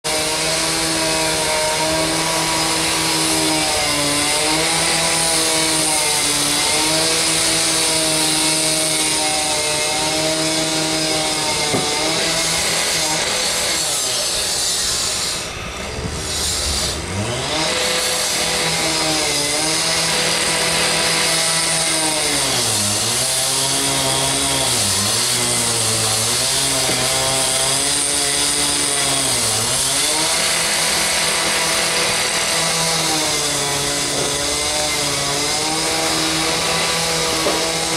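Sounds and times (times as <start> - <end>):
power tool engine revving: 0.1 - 37.9.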